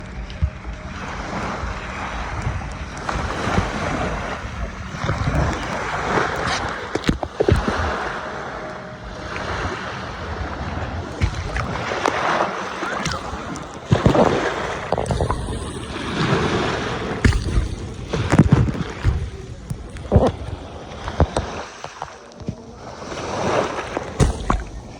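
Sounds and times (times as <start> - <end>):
sea water splashing: 0.0 - 24.9
wind buffeting microphone: 0.0 - 24.9.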